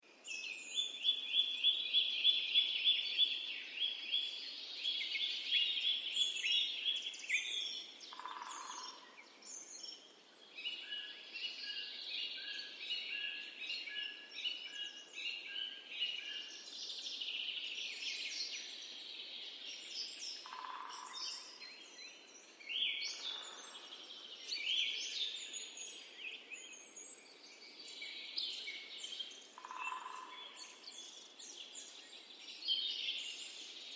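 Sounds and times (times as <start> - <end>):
songbirds singing: 0.2 - 33.9.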